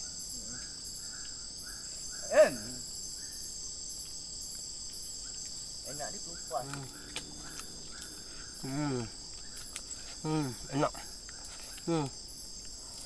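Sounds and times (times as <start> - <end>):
chorus of forest insects: 0.0 - 13.0.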